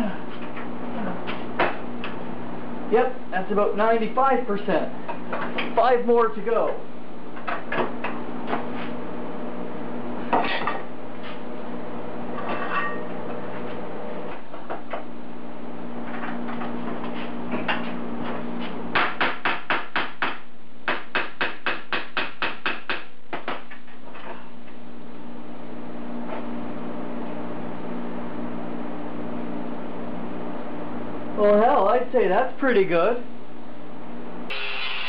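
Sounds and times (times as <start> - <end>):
steady shop hum: 0.0 - 35.0.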